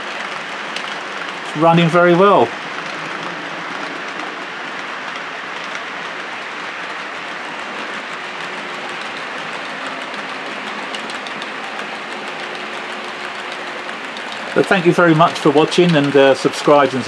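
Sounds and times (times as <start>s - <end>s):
model train motors whirring: 0.0s - 17.0s
wheels clicking over track joints: 0.0s - 17.0s.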